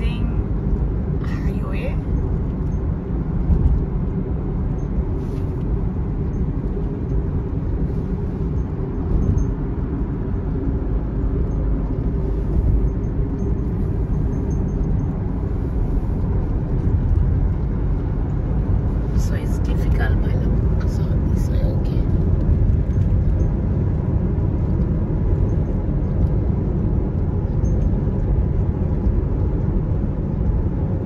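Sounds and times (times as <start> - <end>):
car road and engine noise: 0.0 - 31.0.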